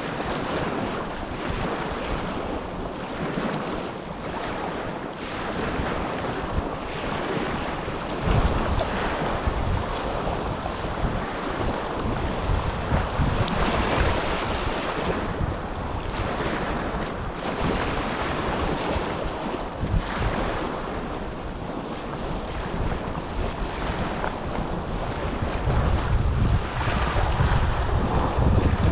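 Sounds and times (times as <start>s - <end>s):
small waves washing on shore: 0.0s - 28.9s
wind buffeting microphone: 0.0s - 28.9s.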